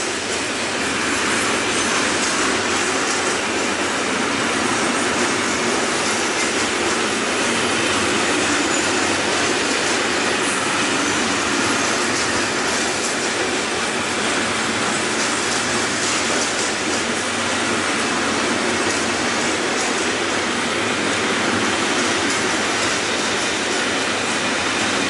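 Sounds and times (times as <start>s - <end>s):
freight train rolling past: 0.0s - 25.0s
steel wheels on rails: 0.0s - 25.0s.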